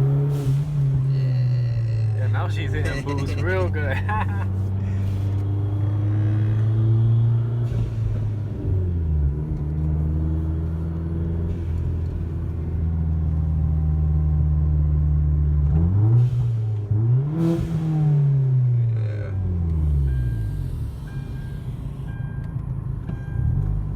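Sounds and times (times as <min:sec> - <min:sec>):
turbocharged car engine under load: 0:00.0 - 0:23.9.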